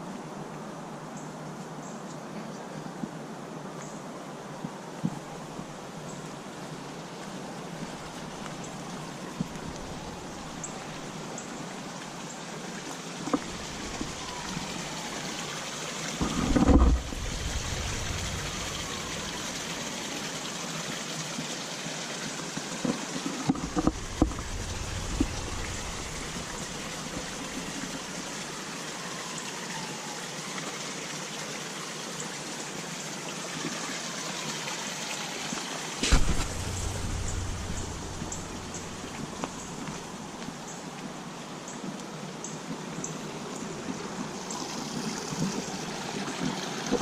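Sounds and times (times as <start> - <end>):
running water hiss: 3.7 - 47.0.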